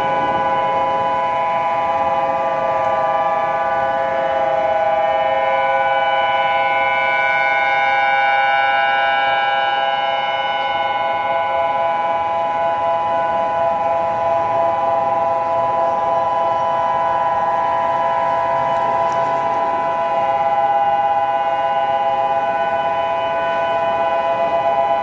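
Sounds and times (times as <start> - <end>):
emergency alert alarm tone: 0.0 - 25.0.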